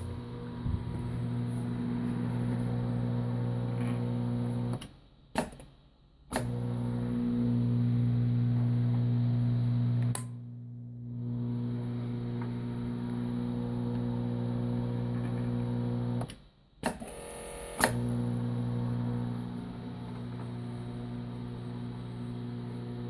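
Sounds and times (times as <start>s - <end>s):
electric machine hum: 0.0s - 4.8s, 6.4s - 16.3s, 17.6s - 23.0s.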